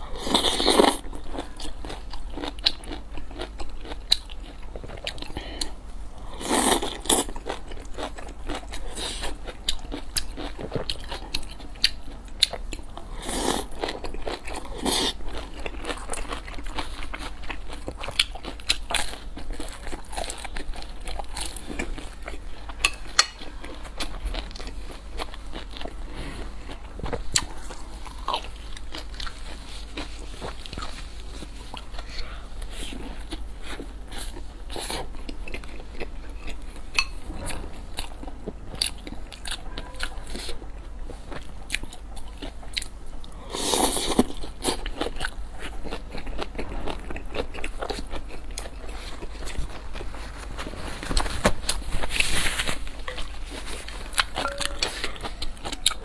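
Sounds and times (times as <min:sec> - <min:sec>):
chewing crunchy food: 0:00.0 - 0:56.0.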